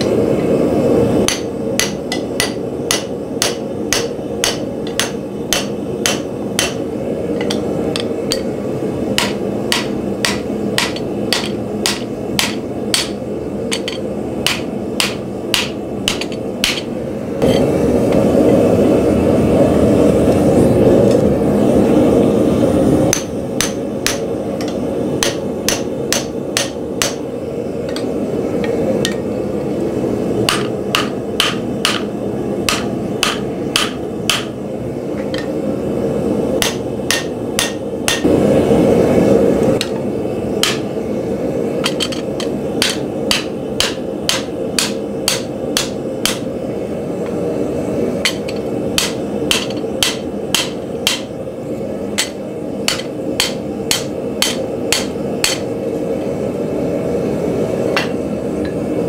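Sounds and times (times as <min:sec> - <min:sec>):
gas forge burner roar: 0:00.0 - 0:59.0.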